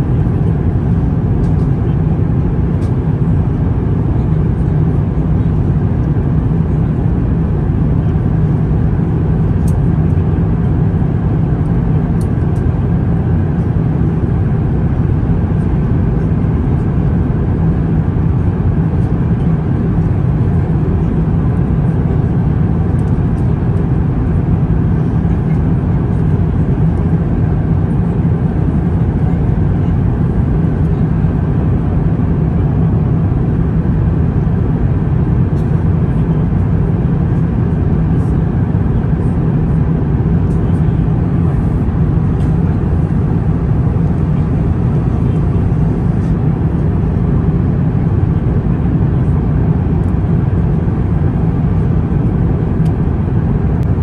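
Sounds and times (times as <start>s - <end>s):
airliner cabin airflow and engines: 0.0s - 54.0s.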